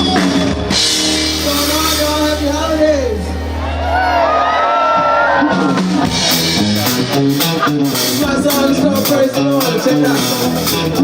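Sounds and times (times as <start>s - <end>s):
drums steady beat: 0.0s - 3.3s, 5.0s - 11.0s
bass guitar: 0.0s - 11.0s
electric guitar: 0.0s - 11.0s.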